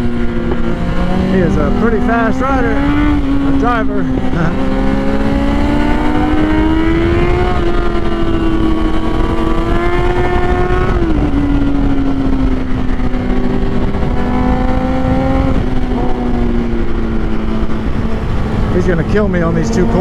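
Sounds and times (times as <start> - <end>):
motorcycle engine running hard: 0.0 - 20.0
wind rushing over microphone: 0.0 - 20.0.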